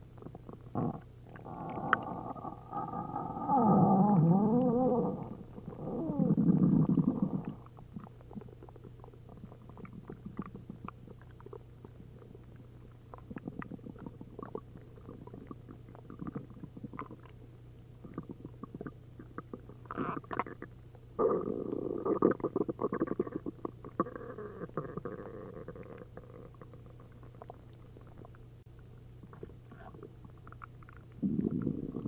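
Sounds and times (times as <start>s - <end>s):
stomach growling: 0.0s - 17.4s, 18.0s - 28.4s, 29.2s - 32.0s
stomach bubbling and gurgling: 0.0s - 32.0s.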